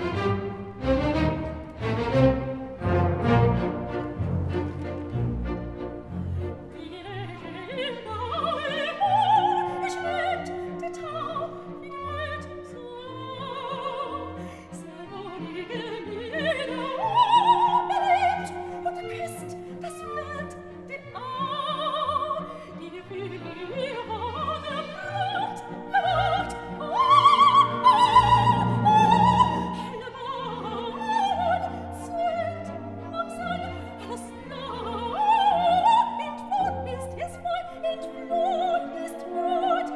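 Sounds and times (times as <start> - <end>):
operatic style background music: 0.0 - 39.9.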